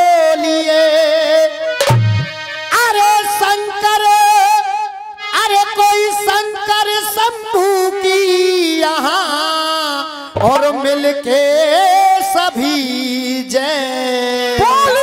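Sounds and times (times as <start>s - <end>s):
person singing folk song: 2.5s - 15.0s.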